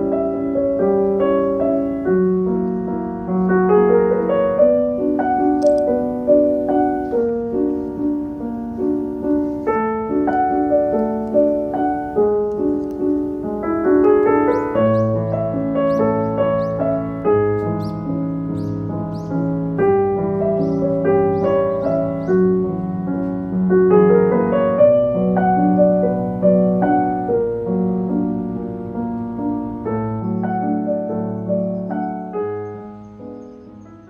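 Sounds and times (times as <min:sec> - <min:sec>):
piano melody: 0:00.0 - 0:34.0.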